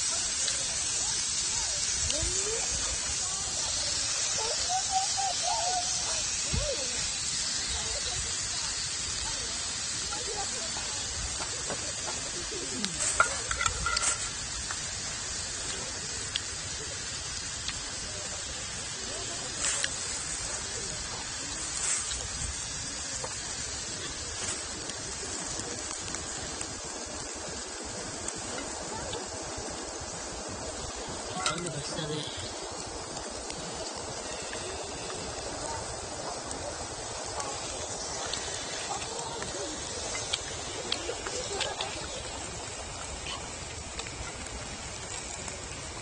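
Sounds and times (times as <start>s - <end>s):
faint voices: 0.0s - 46.0s
meat sizzling on grill: 0.0s - 46.0s.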